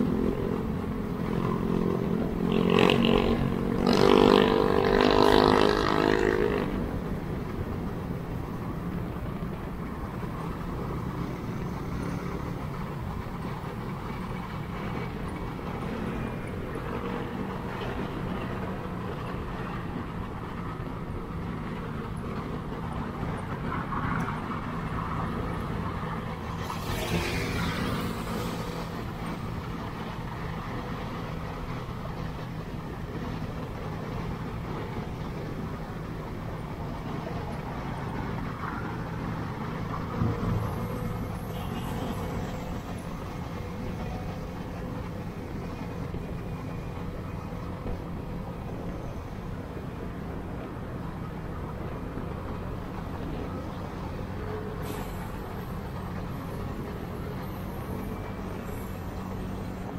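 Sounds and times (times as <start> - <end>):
road and traffic noise: 0.0 - 59.9.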